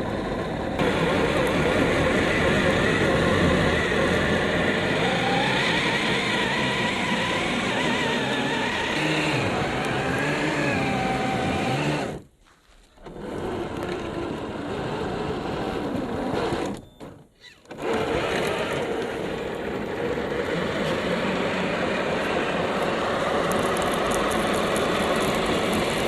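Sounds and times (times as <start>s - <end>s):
electric motor whining: 0.0s - 12.3s, 12.9s - 26.0s.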